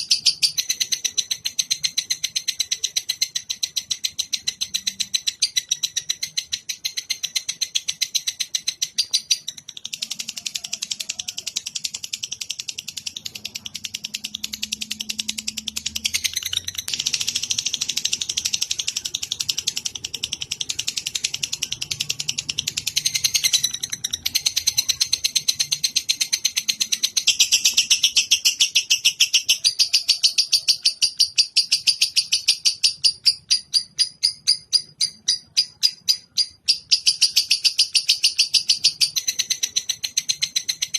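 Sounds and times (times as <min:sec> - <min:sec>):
songbird trilling high chirps: 0:00.0 - 0:40.9.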